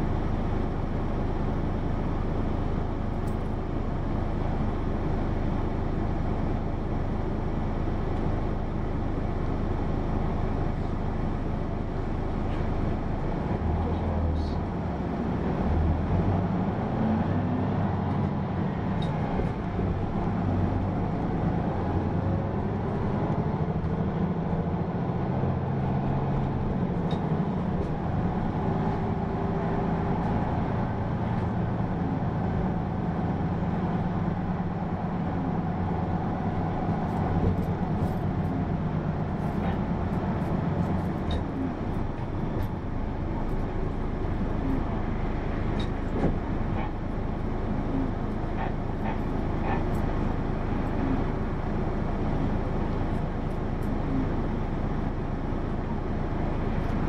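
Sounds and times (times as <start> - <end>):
bus engine hum: 0.0 - 57.0
road noise: 0.0 - 57.0.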